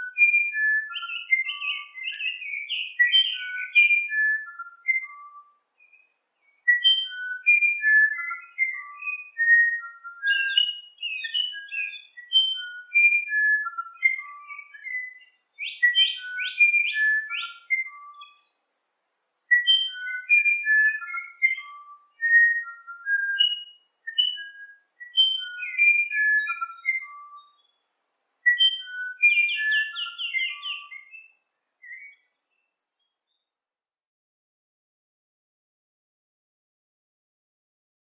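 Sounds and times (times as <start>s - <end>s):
songbird singing whistled notes: 0.0s - 33.5s.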